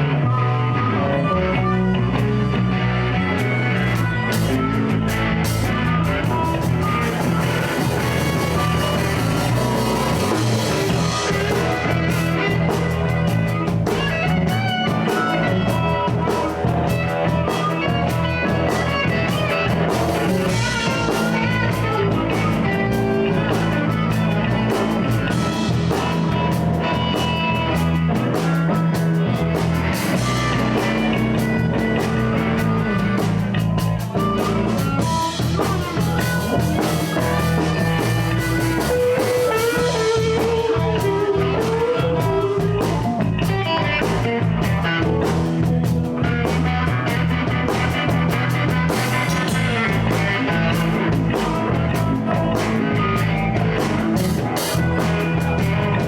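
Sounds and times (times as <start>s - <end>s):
bending lead guitar line: 0.0s - 56.0s
blues band playing: 0.0s - 56.0s.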